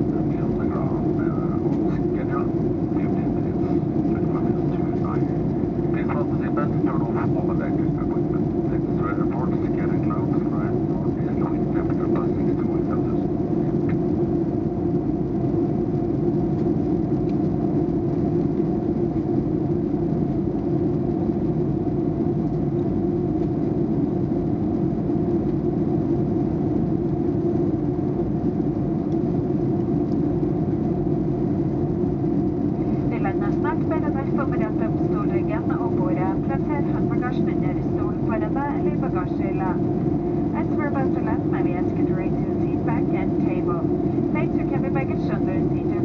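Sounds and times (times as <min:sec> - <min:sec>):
airliner engines rumbling: 0:00.0 - 0:46.0
constant low hum: 0:00.0 - 0:46.0.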